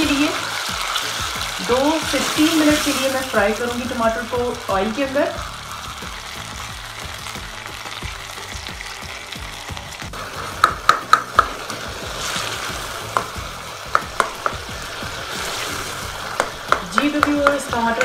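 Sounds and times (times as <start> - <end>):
tomatoes sizzling in oil: 0.0 - 18.0.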